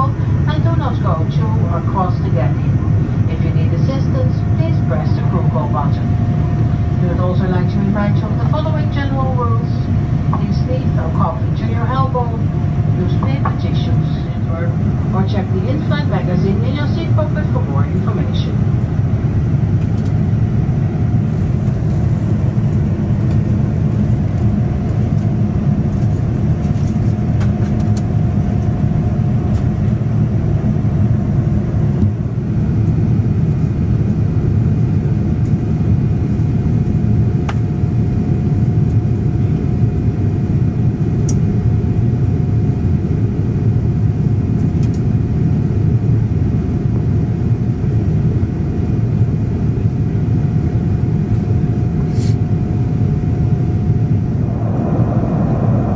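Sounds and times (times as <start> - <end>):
airplane cabin roar: 0.0 - 55.9.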